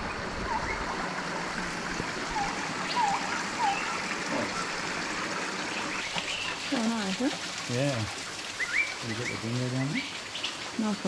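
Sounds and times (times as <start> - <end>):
waterfall rushing and splashing: 0.0 - 11.0.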